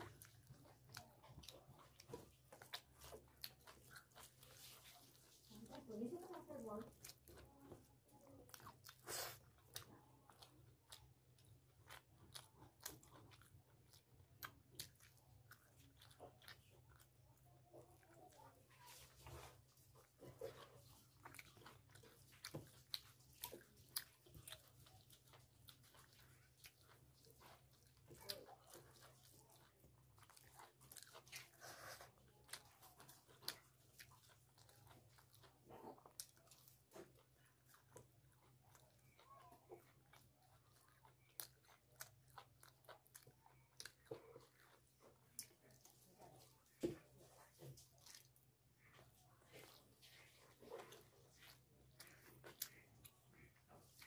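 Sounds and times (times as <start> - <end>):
man chewing with mouth smacks: 0.0 - 54.0.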